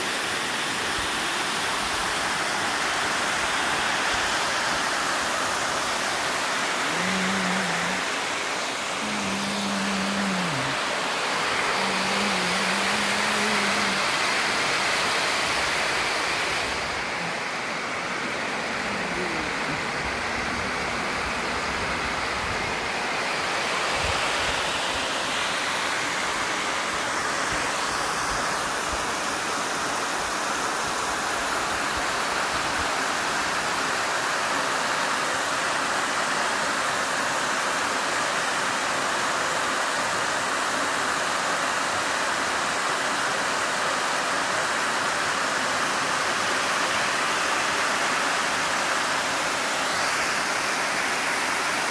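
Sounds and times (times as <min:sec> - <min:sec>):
water rushing over spillway: 0:00.0 - 0:51.9.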